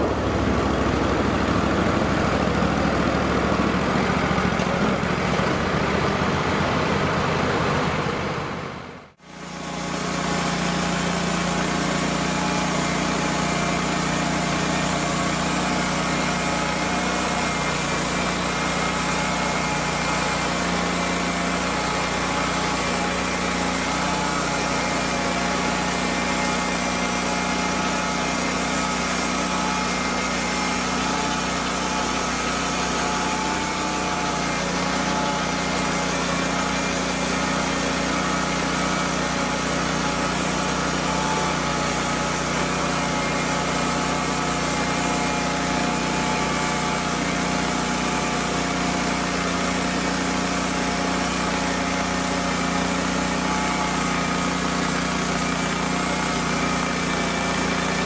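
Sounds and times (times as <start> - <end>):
band saw cutting wood: 0.0 - 8.5, 9.2 - 58.0
sawmill engine running: 0.0 - 58.0.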